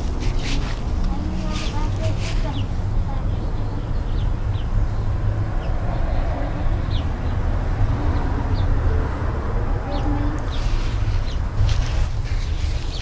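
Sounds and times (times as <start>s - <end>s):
small birds chirping: 0.0s - 8.9s, 9.6s - 13.0s.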